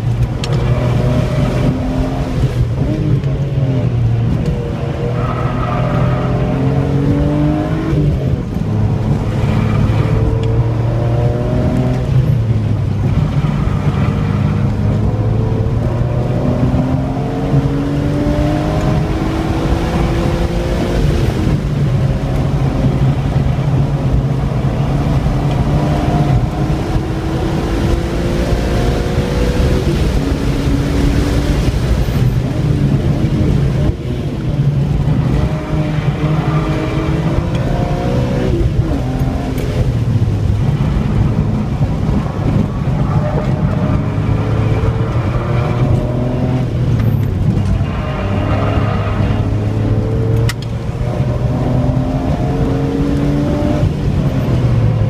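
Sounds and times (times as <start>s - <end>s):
car engine under hard acceleration: 0.0s - 55.0s
tyre and wind noise: 0.0s - 55.0s.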